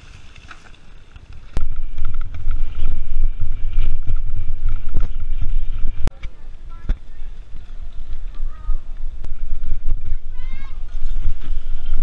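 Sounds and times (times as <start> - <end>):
bike bumping over rough dirt: 0.0 - 12.0
wind buffeting: 1.3 - 12.0.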